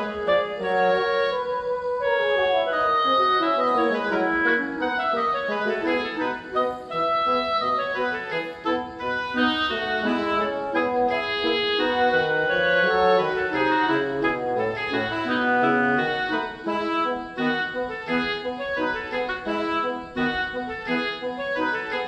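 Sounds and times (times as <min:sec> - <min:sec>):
instrumental keyboard music: 0:00.0 - 0:22.0.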